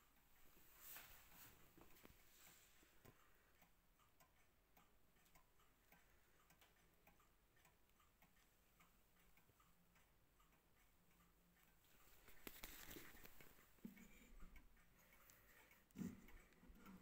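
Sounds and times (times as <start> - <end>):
pendulum wall clock ticking: 0.0 - 17.0.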